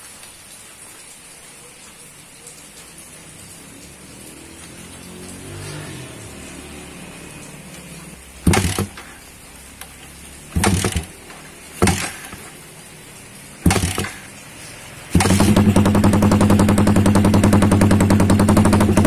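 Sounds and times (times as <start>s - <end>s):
motorcycle engine revving: 3.3s - 19.0s.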